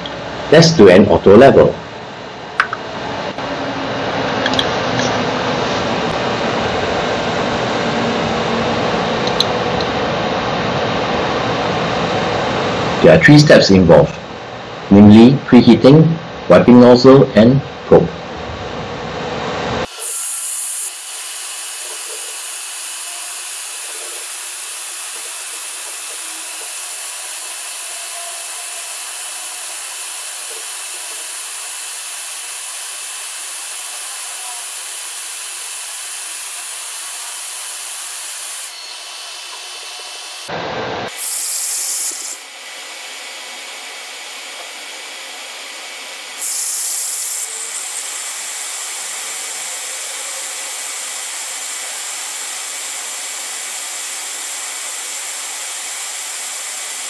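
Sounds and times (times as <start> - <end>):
cooling fans hissing: 0.0 - 57.0.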